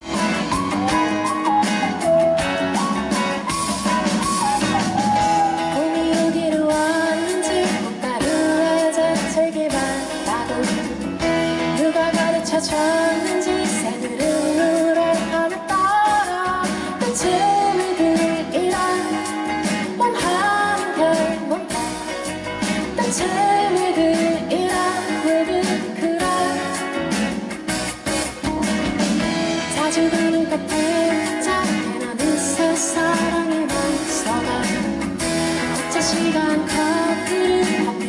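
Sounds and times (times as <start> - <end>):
live pop band playing: 0.0 - 38.0.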